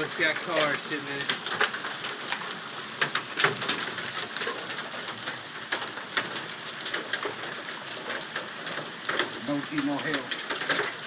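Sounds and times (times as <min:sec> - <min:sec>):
hailstones striking hard surfaces: 0:00.0 - 0:11.0
rain hiss: 0:00.0 - 0:11.0.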